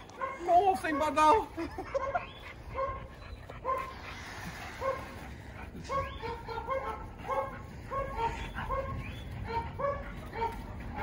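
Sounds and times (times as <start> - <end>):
dog barking: 0.2 - 4.0, 4.7 - 5.2, 5.8 - 11.0.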